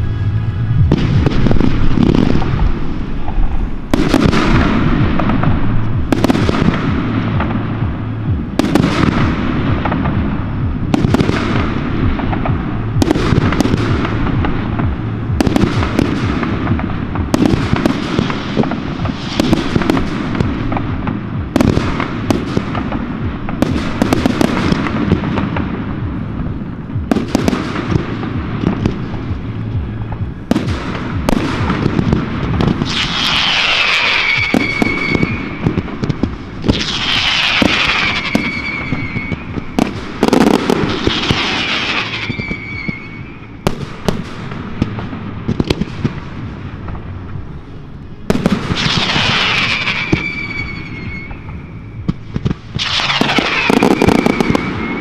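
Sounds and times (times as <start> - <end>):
firework crackling: 0.0 - 55.0.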